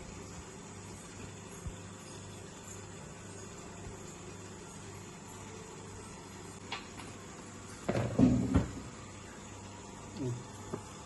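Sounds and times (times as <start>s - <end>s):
microwave oven humming and hissing: 0.0s - 11.0s.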